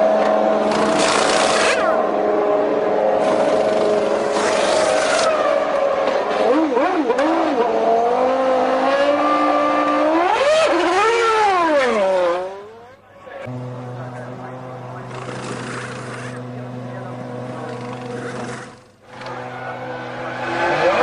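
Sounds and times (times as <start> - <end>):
racing car engine revving: 0.0 - 12.8, 13.4 - 21.0.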